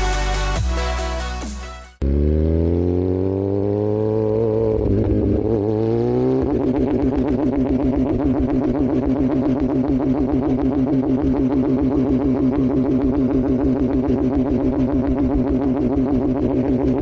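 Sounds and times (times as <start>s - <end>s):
motorcycle engine revving: 2.0s - 17.0s.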